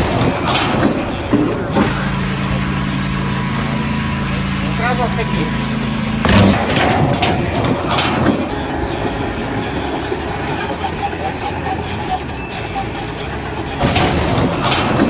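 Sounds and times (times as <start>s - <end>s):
heavy machinery running: 0.0s - 15.0s.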